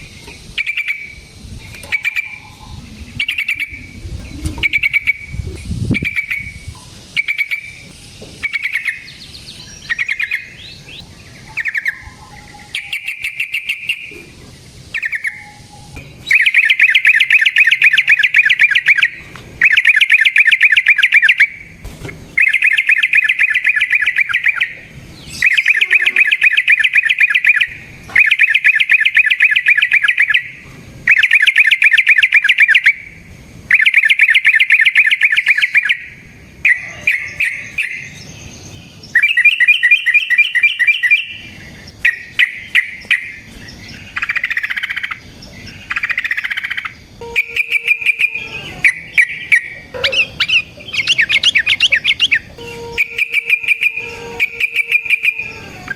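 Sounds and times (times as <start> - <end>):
bulbul singing trills: 0.0 - 55.9.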